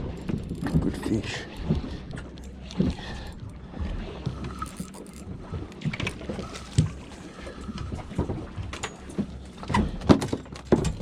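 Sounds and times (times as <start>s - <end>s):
knocks and thumps on a boat: 0.0s - 11.0s
water noise: 0.0s - 11.0s
wind: 0.0s - 11.0s.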